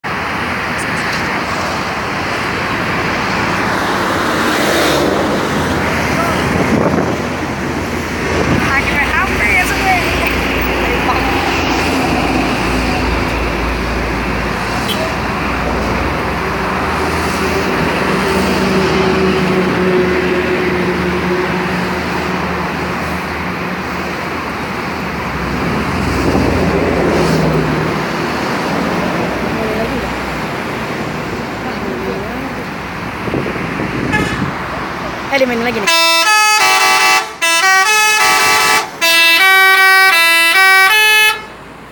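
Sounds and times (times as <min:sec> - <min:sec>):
bus engine droning hum: 0:00.0 - 0:41.9
road traffic: 0:00.0 - 0:41.9.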